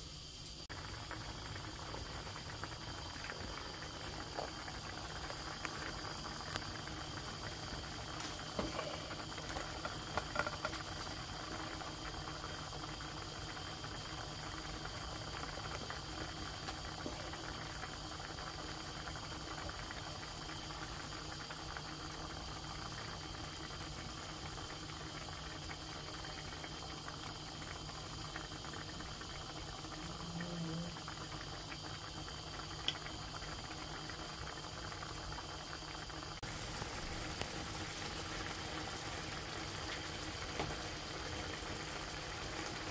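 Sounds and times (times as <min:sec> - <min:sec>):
broth bubbling in pan: 0:00.0 - 0:42.9.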